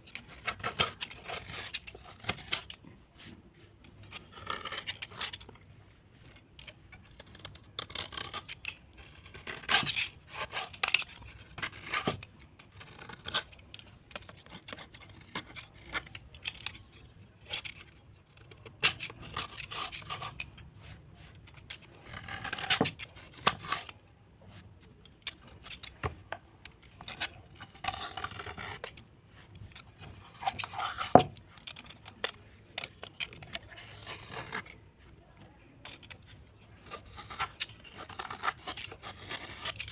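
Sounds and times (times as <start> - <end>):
scraping and scratching by hand: 0.0 - 39.9.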